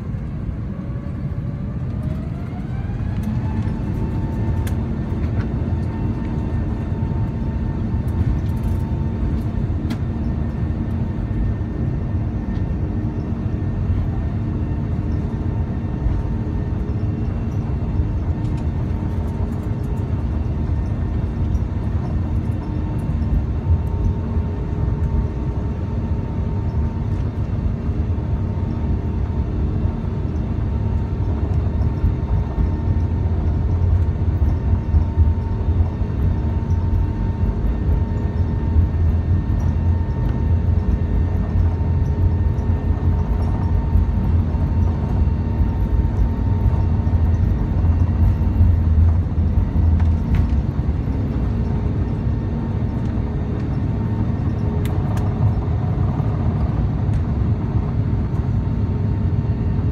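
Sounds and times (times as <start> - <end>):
airplane cabin rumble: 0.0 - 59.9
faint engine whine: 0.0 - 59.9.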